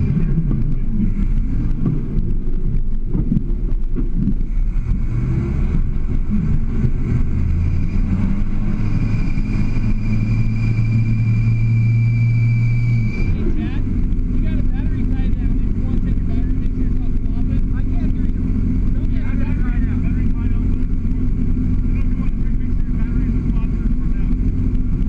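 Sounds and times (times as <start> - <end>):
engine working under load: 0.0 - 25.0
thin steady whine: 0.0 - 25.0.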